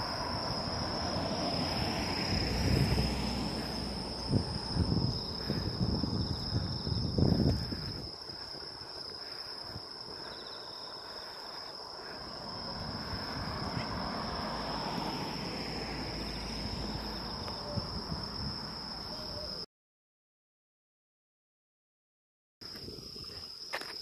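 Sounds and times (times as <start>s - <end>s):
pulsed insect chirp: 0.0s - 19.6s
insects calling high-pitched: 0.0s - 19.7s.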